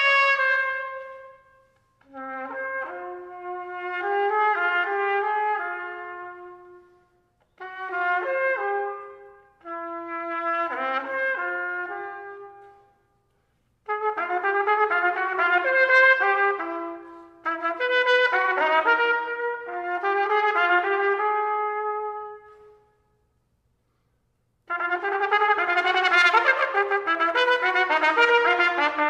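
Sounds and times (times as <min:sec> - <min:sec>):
solo trumpet playing: 0:00.0 - 0:24.0, 0:24.6 - 0:29.0.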